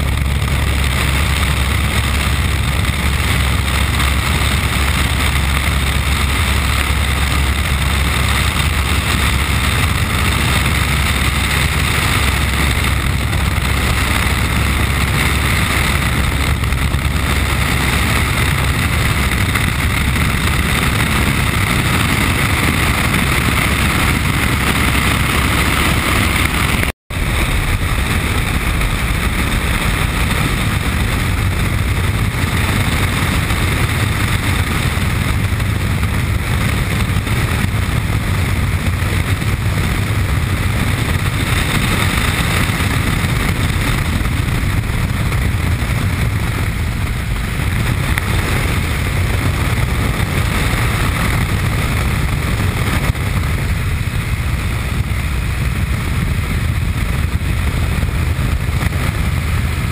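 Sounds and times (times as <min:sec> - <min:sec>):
small plane engine and propeller: 0:00.0 - 0:59.9.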